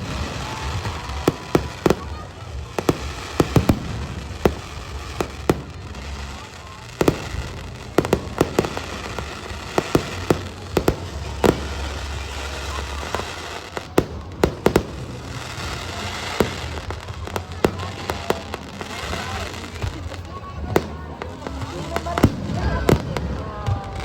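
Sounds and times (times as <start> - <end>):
distant fireworks bursts: 0.0 - 24.0
fireworks bangs: 0.0 - 24.0.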